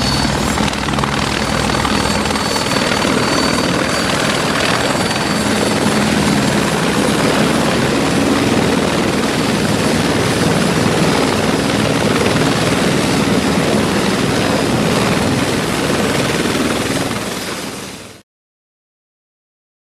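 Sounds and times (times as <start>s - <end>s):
helicopter rotor and turbine: 0.0s - 18.2s.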